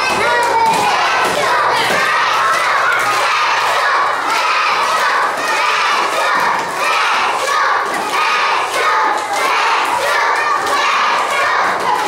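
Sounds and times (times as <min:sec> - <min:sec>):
children shouting and cheering: 0:00.0 - 0:12.0.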